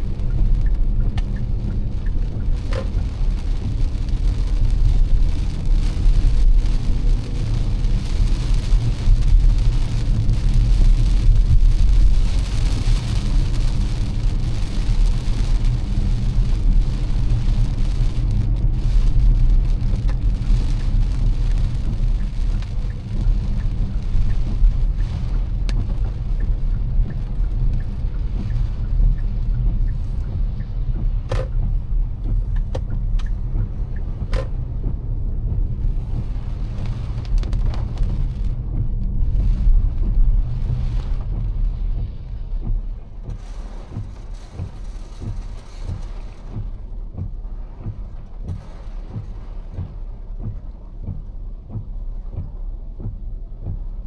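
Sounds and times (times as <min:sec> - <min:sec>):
car engine and road rumble: 0:00.0 - 0:54.0
rain and tyre spray hiss: 0:00.0 - 0:54.0.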